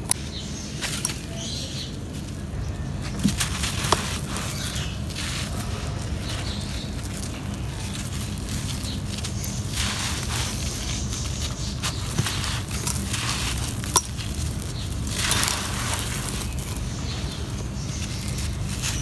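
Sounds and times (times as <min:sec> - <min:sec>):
dirt crumbling between hands: 0:00.4 - 0:19.0.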